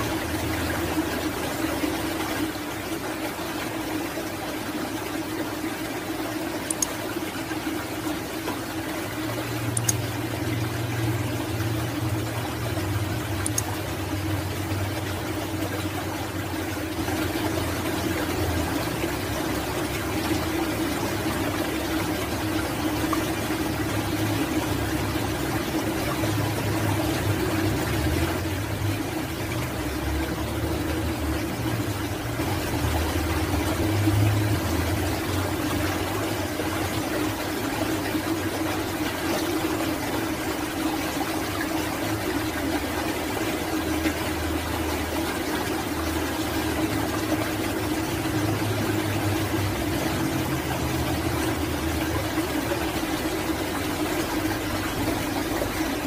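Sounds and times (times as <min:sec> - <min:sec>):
rushing water echoing: 0:00.0 - 0:56.0.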